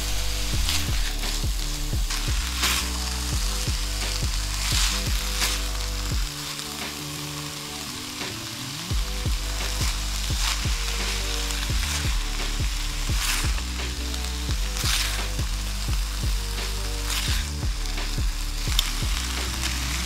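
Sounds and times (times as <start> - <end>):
background music with beat: 0.0 - 20.0
food sizzling in a pan: 0.0 - 20.0
wooden spatula scraping: 0.0 - 20.0.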